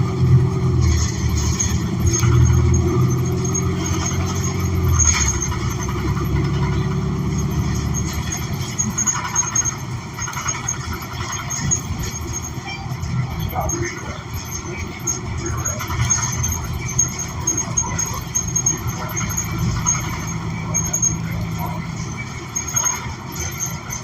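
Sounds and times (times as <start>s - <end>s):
bus engine drone: 0.0s - 24.0s
transmission whine: 0.0s - 24.0s.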